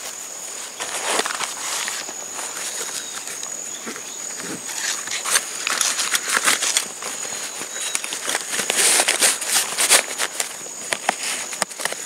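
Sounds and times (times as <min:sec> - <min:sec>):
high insect drone: 0:00.0 - 0:12.0
nylon bags rustling and scraping: 0:00.0 - 0:12.0.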